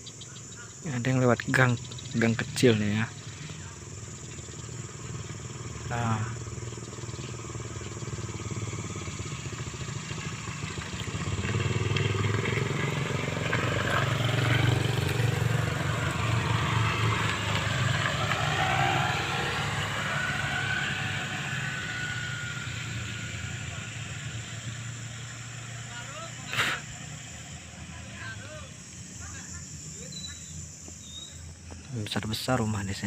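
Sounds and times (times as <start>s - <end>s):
low engine hum: 0.0s - 33.0s
motorcycle passing by: 0.4s - 31.8s.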